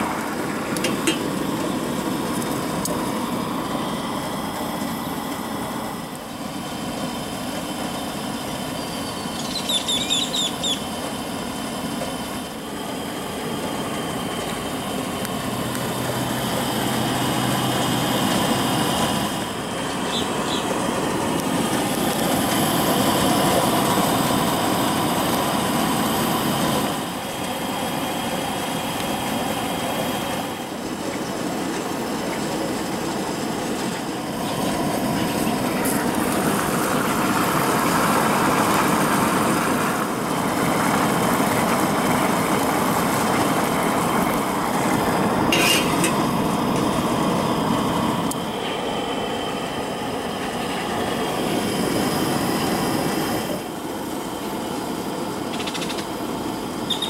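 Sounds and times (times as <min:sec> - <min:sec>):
gas burner hissing: 0:00.0 - 0:57.0.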